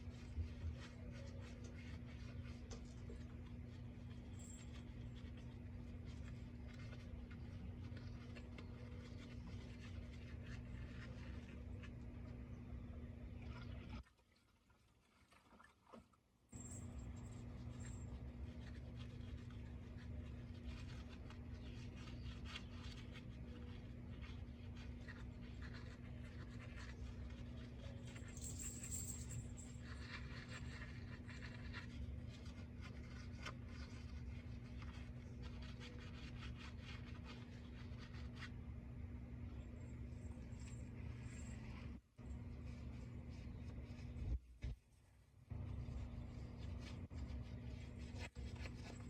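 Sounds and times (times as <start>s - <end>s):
steady low hum: 0.0s - 14.0s, 16.5s - 49.0s.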